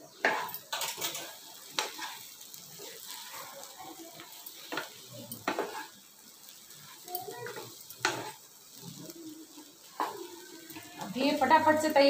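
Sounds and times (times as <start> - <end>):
light sizzle: 0.0 - 12.0
spatula scraping frying pan: 0.0 - 12.0.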